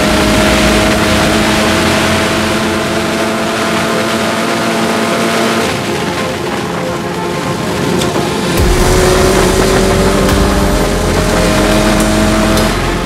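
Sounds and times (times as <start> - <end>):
race car engine at full throttle: 0.0 - 13.0
wind and road noise: 0.0 - 13.0.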